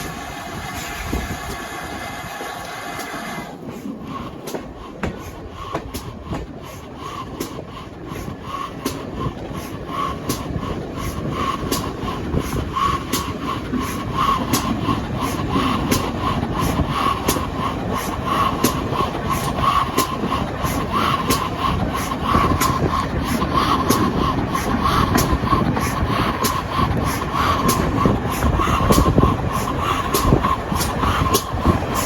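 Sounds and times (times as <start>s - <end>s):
train wheels clicking over rail joints: 0.0s - 32.0s.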